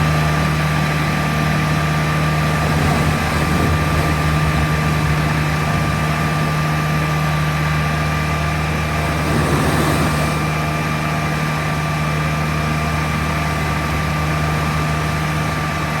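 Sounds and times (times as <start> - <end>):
vacuum truck running: 0.0 - 16.0.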